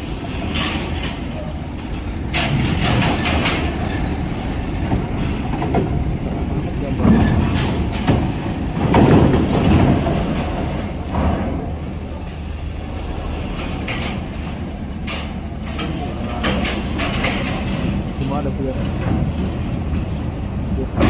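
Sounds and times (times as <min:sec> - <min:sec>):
metal clanks and knocks: 0:00.0 - 0:12.4, 0:13.0 - 0:21.0
diesel engine rumble: 0:00.0 - 0:21.0.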